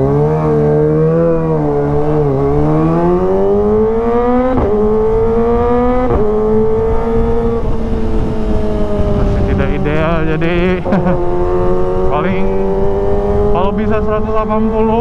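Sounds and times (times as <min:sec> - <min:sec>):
motorcycle engine accelerating: 0:00.0 - 0:15.0
quick gear upshifts: 0:00.0 - 0:15.0.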